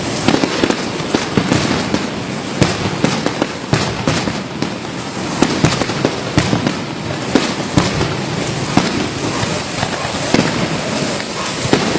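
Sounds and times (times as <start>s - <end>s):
heavy rain hissing: 0.0s - 11.9s
sharp cracks: 0.0s - 11.9s.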